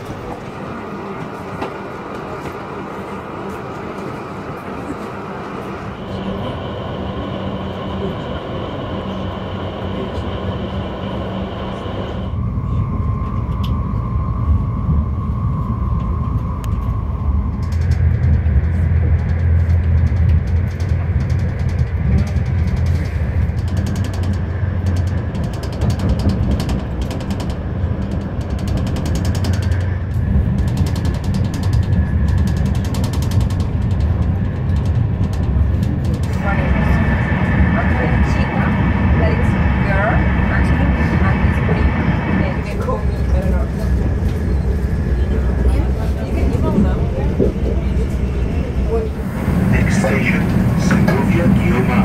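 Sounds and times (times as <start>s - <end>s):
train rumbling: 0.0s - 52.0s.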